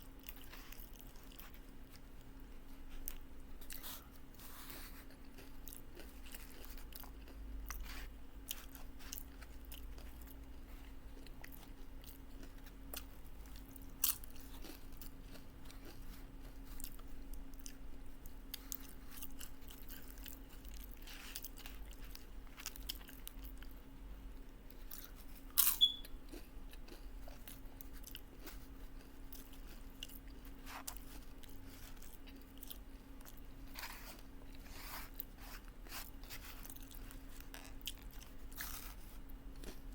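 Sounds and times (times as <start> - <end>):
chewing crunchy chips: 0.0 - 39.9
faint steady hum: 0.0 - 39.9.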